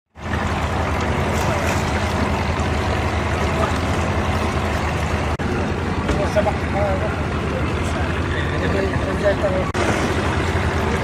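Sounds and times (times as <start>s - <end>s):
speed boat engine droning: 0.2s - 11.0s.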